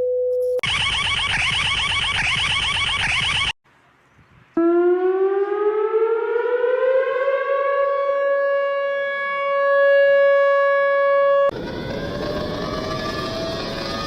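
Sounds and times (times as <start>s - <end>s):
civil defense siren winding up: 0.6s - 3.5s, 4.6s - 14.0s
noisy rising siren-like sound: 0.6s - 3.6s, 4.6s - 14.0s.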